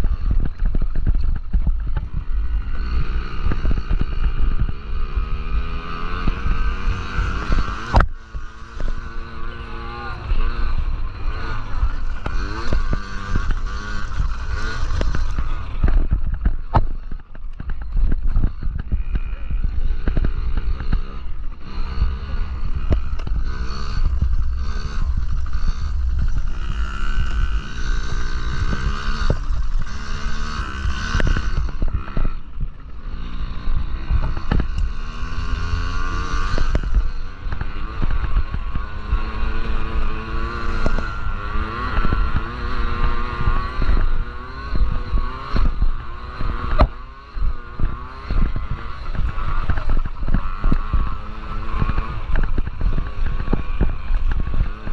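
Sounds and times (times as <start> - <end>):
small two-stroke engines revving: 0.0 - 54.9
wind rumble on microphone: 0.0 - 54.9.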